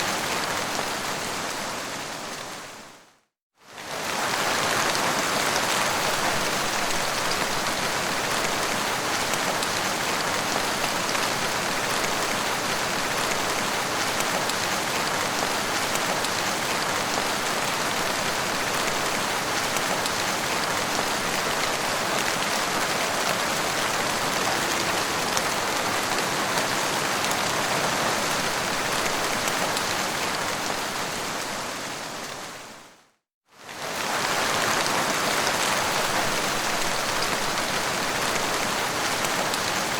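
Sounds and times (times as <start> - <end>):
heavy rain falling: 0.0 - 2.9, 3.7 - 32.9, 33.6 - 39.9.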